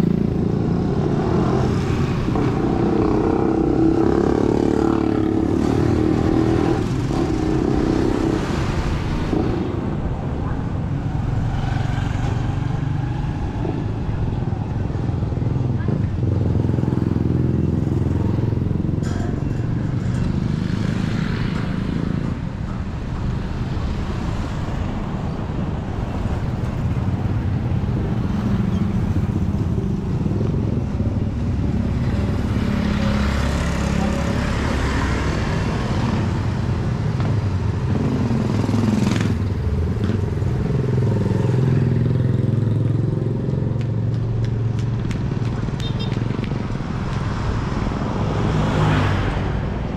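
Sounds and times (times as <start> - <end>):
busy street noise: 0.0 - 49.9.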